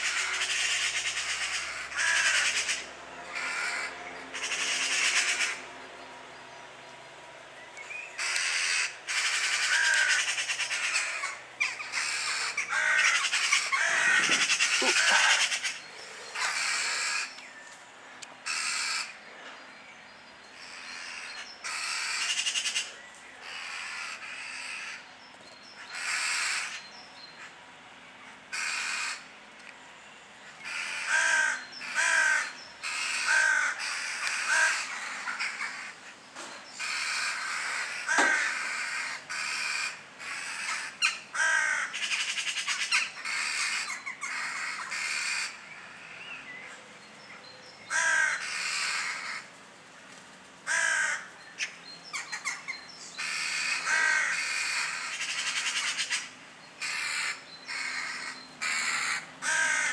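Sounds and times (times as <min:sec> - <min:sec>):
birds harsh rasping calls: 0:00.0 - 0:17.7, 0:18.4 - 0:29.5, 0:30.3 - 0:49.5, 0:50.6 - 0:59.9.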